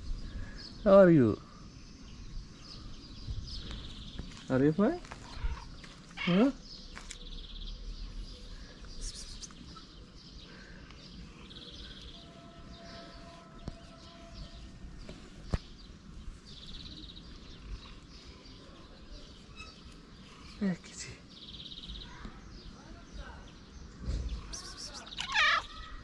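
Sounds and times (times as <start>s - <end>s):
birds chirping in rapid trills: 0.0s - 26.0s
outdoor background noise: 0.0s - 26.0s.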